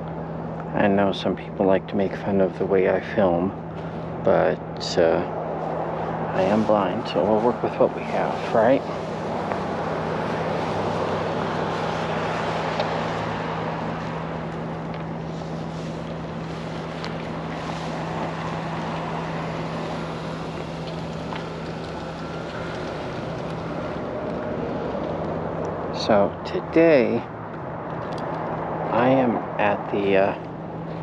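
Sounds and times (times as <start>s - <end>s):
constant low hum: 0.0s - 31.0s
outdoor rushing noise: 0.0s - 31.0s.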